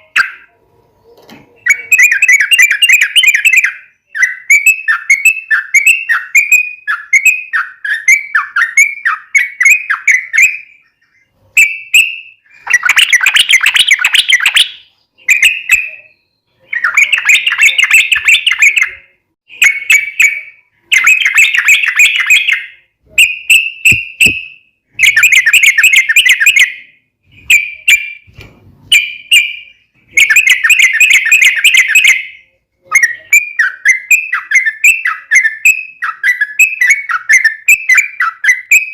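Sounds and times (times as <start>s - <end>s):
bulbul singing: 1.5s - 28.3s, 28.9s - 38.9s.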